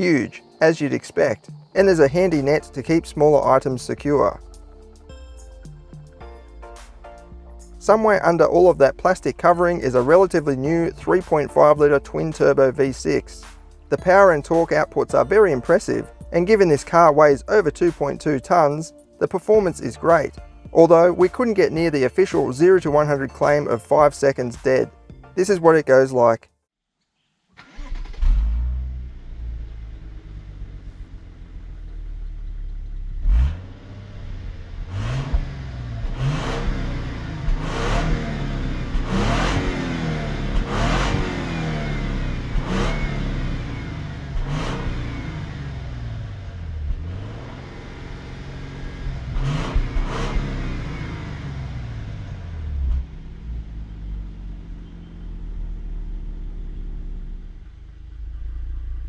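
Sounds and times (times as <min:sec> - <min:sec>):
car engine accelerating: 0:01.2 - 0:17.9, 0:27.6 - 0:59.0.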